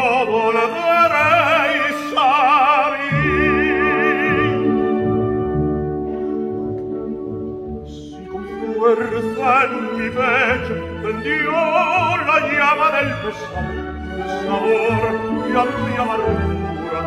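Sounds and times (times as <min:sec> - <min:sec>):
operatic orchestral music: 0:00.0 - 0:17.0.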